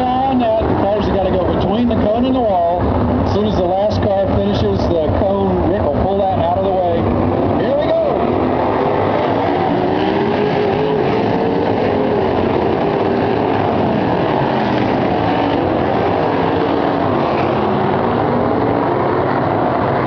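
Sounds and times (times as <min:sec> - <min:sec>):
racing car engines passing: 0:00.0 - 0:20.0.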